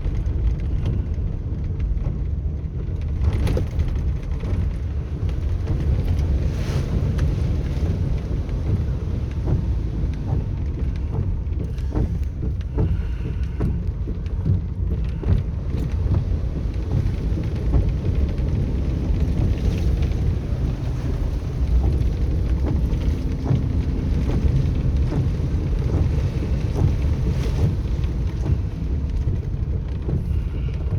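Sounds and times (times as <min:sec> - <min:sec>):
engine and road rumble: 0:00.0 - 0:30.9
water splashes and knocks: 0:00.0 - 0:30.9.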